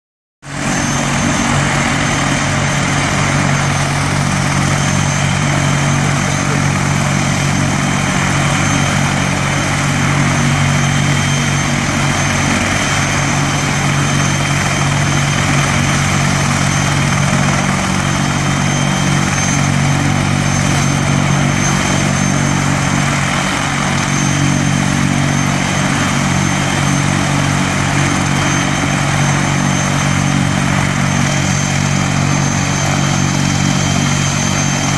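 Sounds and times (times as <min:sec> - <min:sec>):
helicopter engines and rotors thrumming: 0:00.4 - 0:34.9
high-pitched turbine whine: 0:00.4 - 0:34.9.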